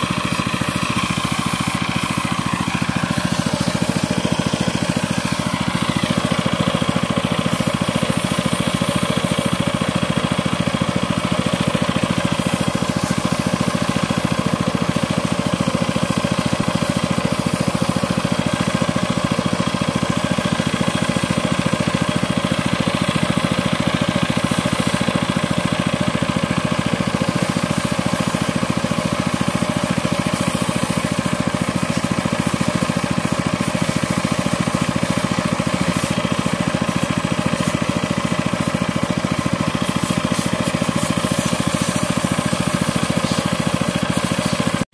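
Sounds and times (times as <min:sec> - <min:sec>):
engine running with fast pulsing: 0:00.0 - 0:44.9.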